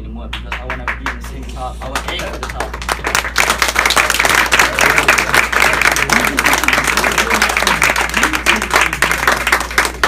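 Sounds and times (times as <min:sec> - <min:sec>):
audience applauding: 0:00.5 - 0:10.0.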